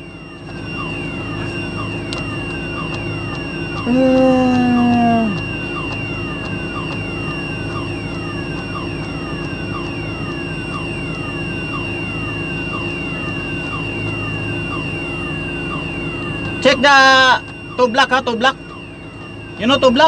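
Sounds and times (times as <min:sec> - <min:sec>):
electronic alarm chirping: 0:00.0 - 0:20.0
steady machine drone: 0:00.0 - 0:20.0.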